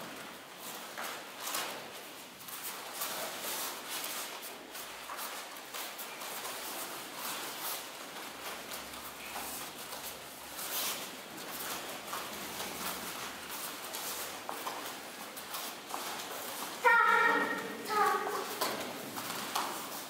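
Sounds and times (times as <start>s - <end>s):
fabric rustling: 0.0s - 20.0s.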